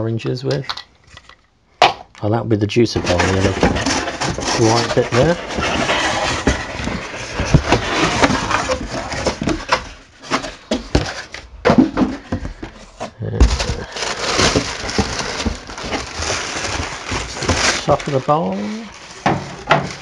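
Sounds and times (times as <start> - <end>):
cardboard inserts knocking and scraping: 2.9 - 20.0
tissue paper rustling: 3.0 - 11.3, 12.3 - 20.0.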